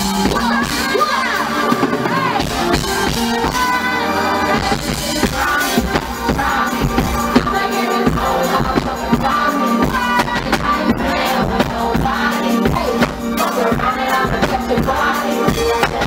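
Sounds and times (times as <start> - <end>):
live hip-hop song: 0.0 - 16.0
woman singing into microphone: 0.0 - 16.0.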